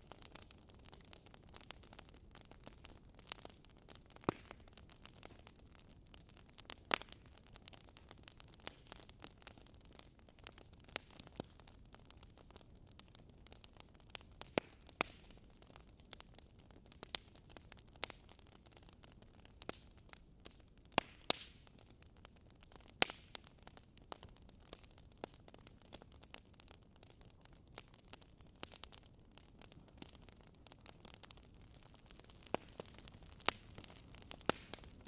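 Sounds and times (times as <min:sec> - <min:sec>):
faint steady hiss: 0:00.0 - 0:35.0
firewood crackling and popping: 0:00.0 - 0:35.0.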